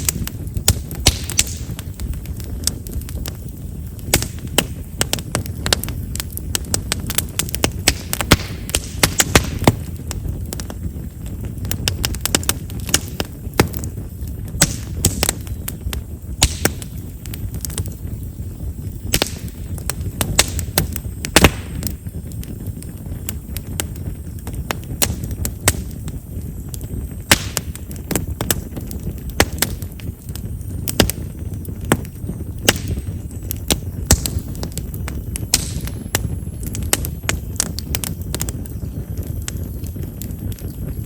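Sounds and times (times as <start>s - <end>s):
steady low rumble: 0.0s - 41.0s
wood fire crackling and popping: 0.0s - 41.0s.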